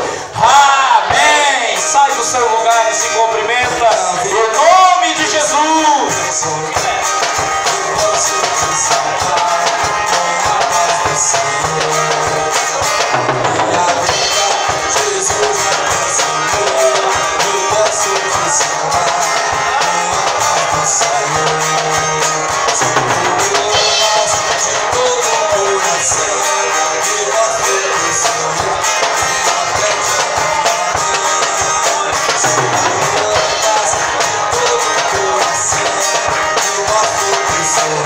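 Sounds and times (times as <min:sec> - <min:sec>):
percussion beat: 0:00.4 - 0:38.0
acoustic guitar strumming: 0:01.0 - 0:38.0.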